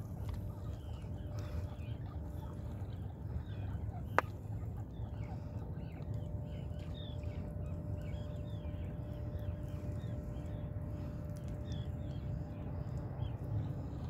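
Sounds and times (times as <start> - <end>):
birds chirping: 0.0 - 14.0
faint steady hum: 0.0 - 14.0
low steady rumble: 0.0 - 14.0.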